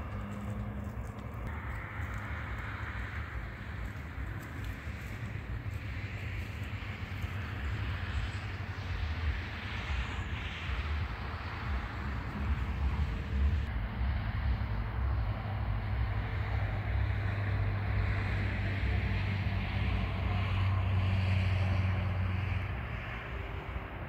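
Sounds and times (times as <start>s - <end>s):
engine humming: 0.0s - 24.0s
wind noise: 0.0s - 24.0s.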